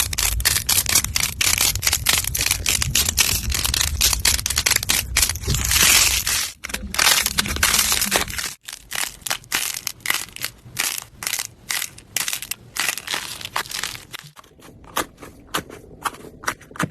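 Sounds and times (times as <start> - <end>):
crunchy slime crackling: 0.0 - 16.9.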